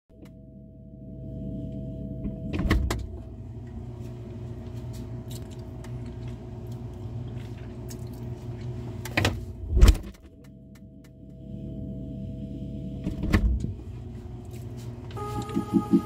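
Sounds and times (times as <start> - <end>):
low hum: 0.1 - 16.0.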